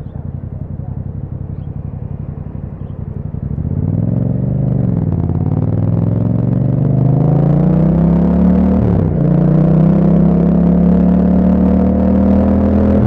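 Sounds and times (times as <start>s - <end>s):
motorcycle engine pulling away: 0.0s - 13.0s.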